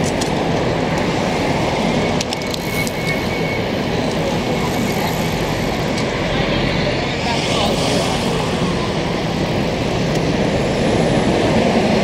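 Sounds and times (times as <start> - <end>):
heavy road traffic passing: 0.0 - 12.0.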